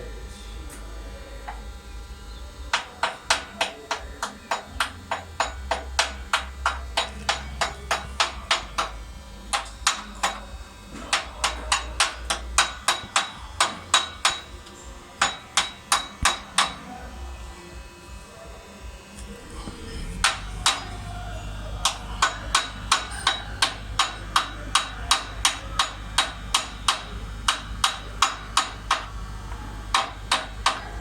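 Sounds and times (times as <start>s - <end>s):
hammer striking metal: 2.7s - 17.0s, 19.6s - 29.2s, 29.9s - 31.0s.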